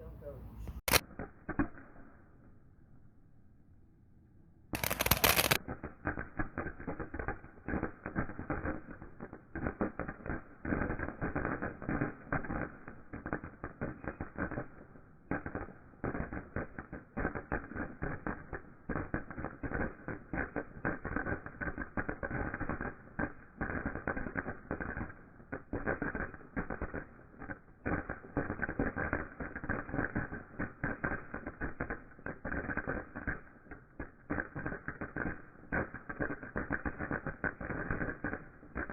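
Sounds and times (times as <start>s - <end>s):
firework crackling: 0.0s - 2.5s, 4.8s - 38.9s.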